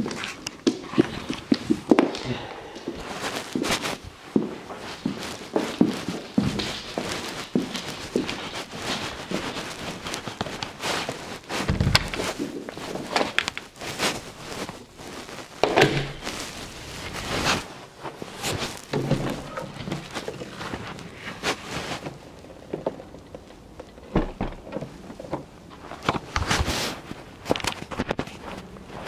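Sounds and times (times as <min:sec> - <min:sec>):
footsteps crunching in snow: 0:00.0 - 0:22.9, 0:25.7 - 0:29.0.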